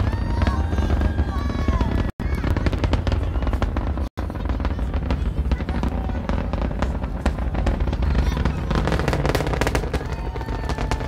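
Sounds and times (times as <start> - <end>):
rocket engine rumble with crackling: 0.0 - 11.0.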